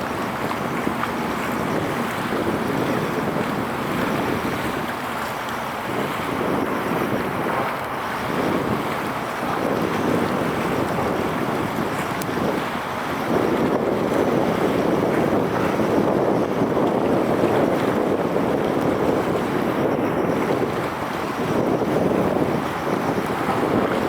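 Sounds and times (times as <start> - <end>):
water noise: 0.0 - 24.0
wind on microphone: 0.0 - 24.0.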